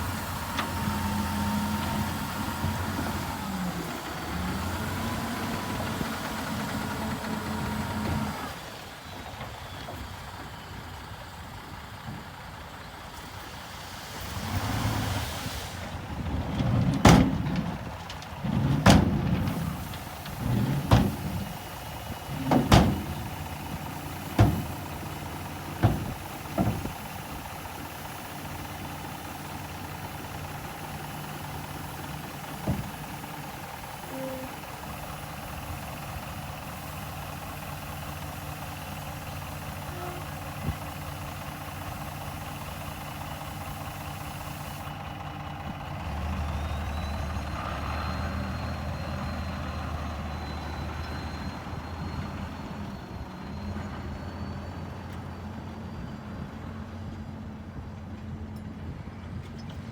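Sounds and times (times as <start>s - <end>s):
heavy machinery engine running: 0.0s - 59.4s.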